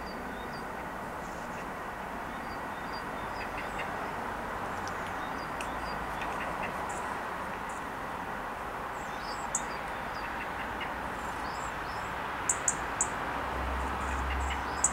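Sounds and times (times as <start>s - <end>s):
small birds chirping: 0.0s - 4.1s, 4.8s - 7.9s, 8.9s - 13.1s, 13.9s - 14.9s.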